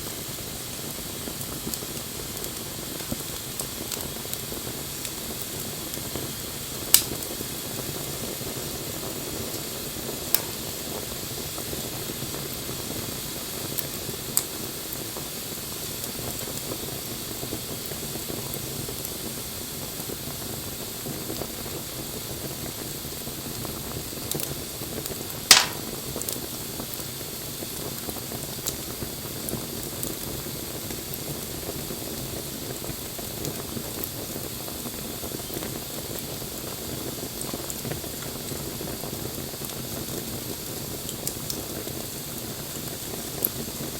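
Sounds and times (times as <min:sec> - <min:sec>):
fire popping: 0:00.0 - 0:19.4, 0:20.0 - 0:43.9
wood fire crackling: 0:00.0 - 0:43.9.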